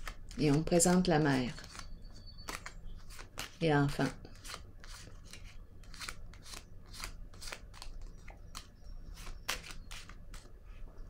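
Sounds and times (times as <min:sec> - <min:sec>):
cards being shuffled: 0:00.0 - 0:10.8.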